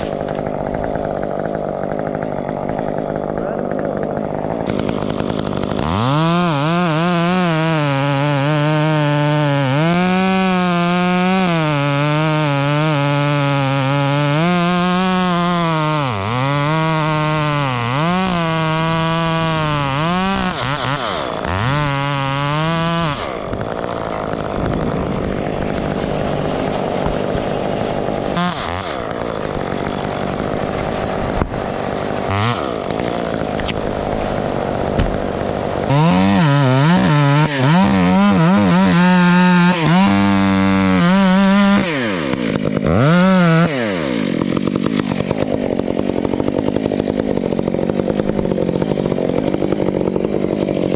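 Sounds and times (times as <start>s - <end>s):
chainsaw cutting wood: 0.0s - 50.9s
chainsaw engine revving: 0.0s - 50.9s.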